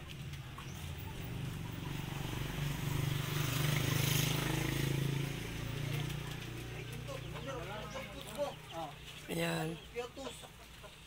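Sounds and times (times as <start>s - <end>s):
vehicle engine passing by: 0.0s - 9.8s.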